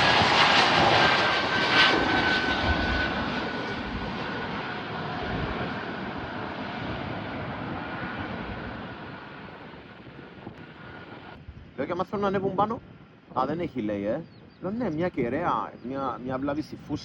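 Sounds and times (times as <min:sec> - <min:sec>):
aircraft engines rushing: 0:00.0 - 0:17.0.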